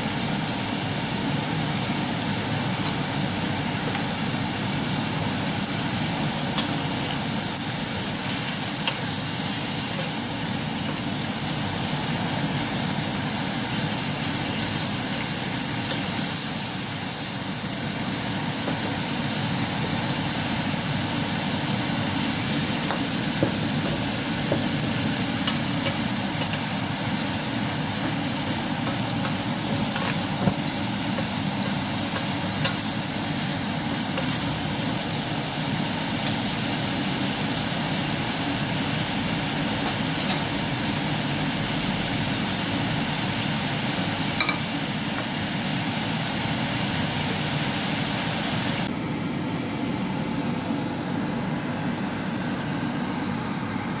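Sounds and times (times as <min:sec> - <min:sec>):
food sizzling in a frying pan: 0:00.0 - 0:48.9.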